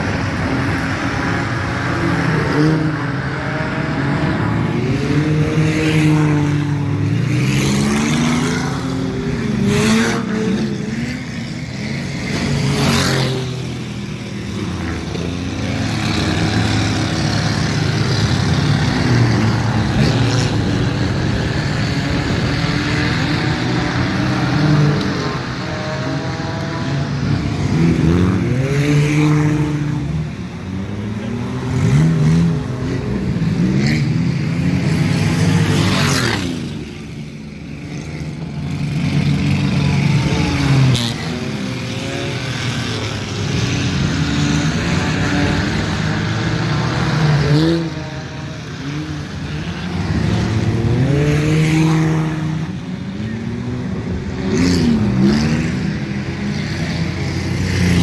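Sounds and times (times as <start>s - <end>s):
race car engines passing: 0.0s - 58.0s.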